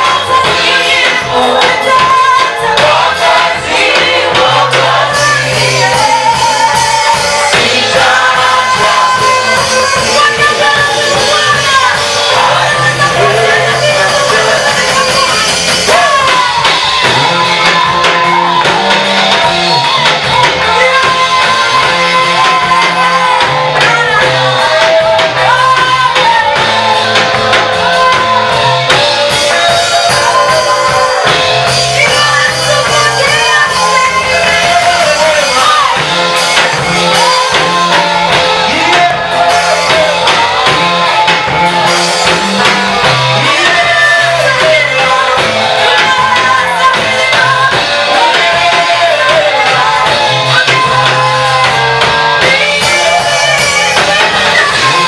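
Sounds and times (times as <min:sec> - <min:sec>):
band with guitar and bass: 0:00.0 - 0:55.0
voices singing: 0:00.0 - 0:55.0.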